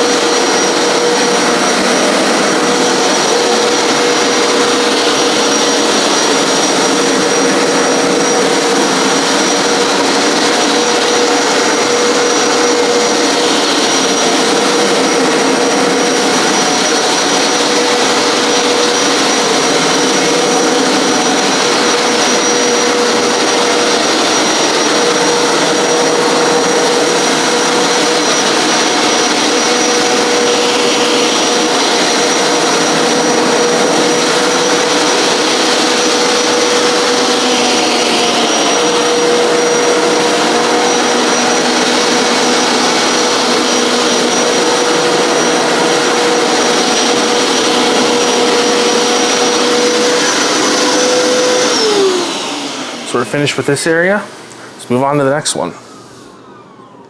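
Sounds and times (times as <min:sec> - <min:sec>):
carpet cleaner motor whine: 0:00.0 - 0:57.0.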